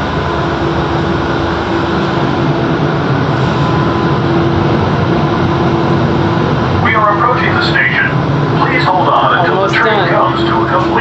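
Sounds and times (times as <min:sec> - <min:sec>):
train car rumble and hiss: 0:00.0 - 0:11.0.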